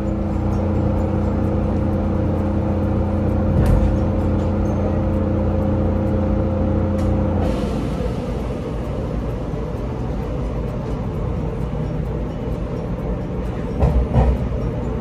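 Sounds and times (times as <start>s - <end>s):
train equipment hum: 0.0s - 15.0s.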